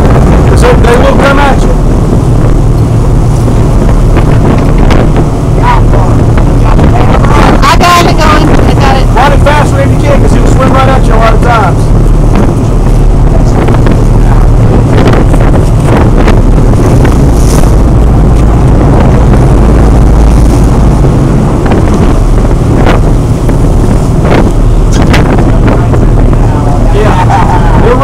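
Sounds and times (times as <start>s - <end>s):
boat engine low rumble: 0.0s - 28.0s
wind buffeting microphone: 0.0s - 28.0s.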